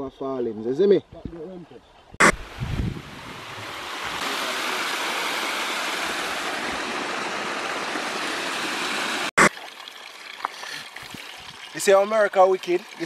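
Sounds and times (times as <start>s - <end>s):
stream water rushing over rocks: 2.3s - 13.0s.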